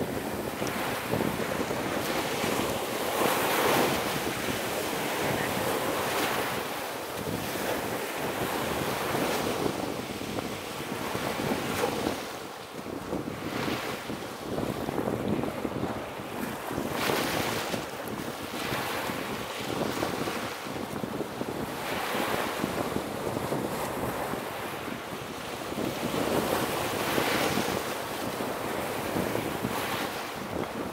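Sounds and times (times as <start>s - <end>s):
sea waves breaking: 0.0s - 30.9s
wind blowing across microphone: 0.0s - 30.9s.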